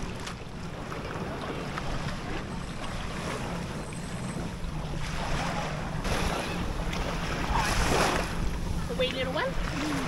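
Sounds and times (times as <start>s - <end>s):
steady low rumble: 0.0s - 10.0s
water lapping around boat: 0.0s - 10.0s.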